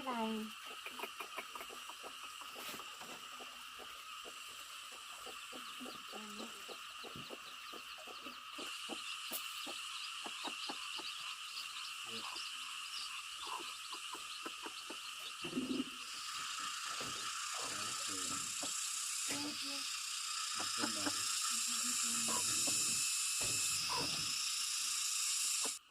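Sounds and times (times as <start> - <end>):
chorus of calling animals: 0.1 - 24.4.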